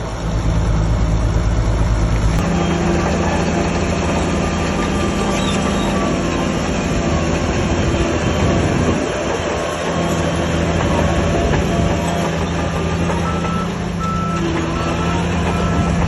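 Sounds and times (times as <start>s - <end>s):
diesel machinery engine hum: 0.0s - 16.0s.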